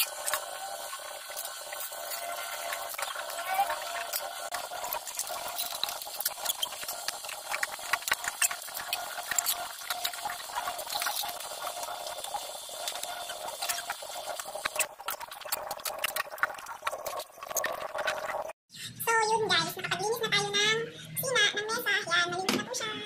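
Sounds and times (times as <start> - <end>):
running water: 0.0 - 18.6
sponge scrubbing pots: 0.0 - 18.6.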